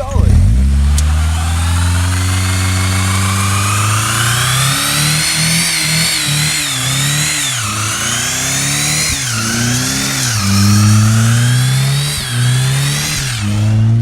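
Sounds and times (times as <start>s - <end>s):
engine revving high: 0.0s - 14.0s
tyres squealing: 1.0s - 13.8s.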